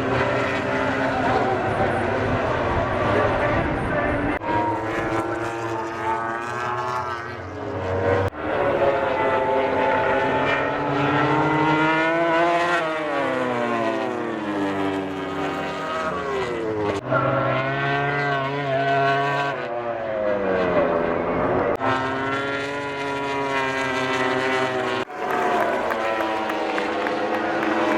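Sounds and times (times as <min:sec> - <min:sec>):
racing motorcycle engines revving: 0:00.0 - 0:27.9.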